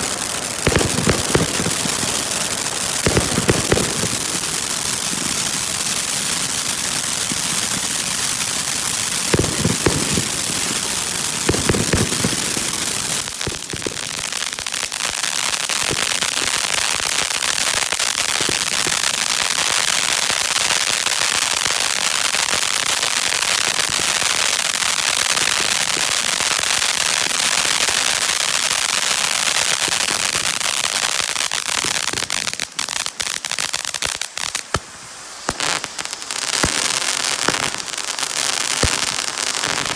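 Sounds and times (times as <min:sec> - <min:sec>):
firework bursts: 0:00.0 - 0:39.9
firework fountain hissing and crackling: 0:00.0 - 0:39.9.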